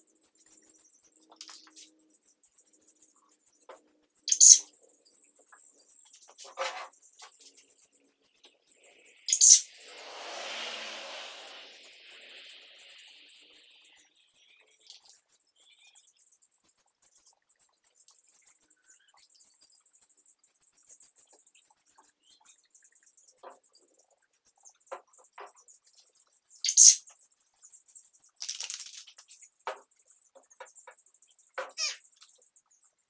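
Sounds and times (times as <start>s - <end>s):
faint high twittering: 0.0s - 6.4s, 7.0s - 24.7s, 25.9s - 33.0s.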